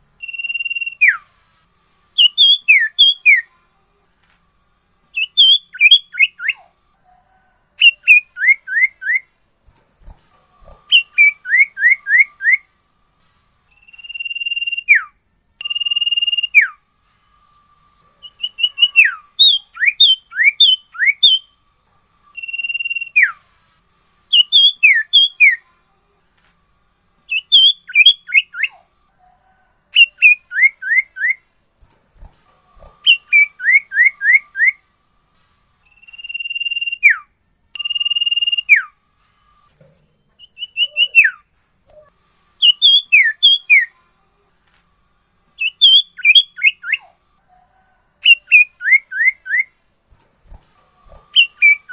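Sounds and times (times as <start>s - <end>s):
songbird whistling: 0.0s - 1.5s, 2.1s - 3.6s, 5.1s - 25.8s, 27.2s - 44.2s, 45.0s - 51.9s.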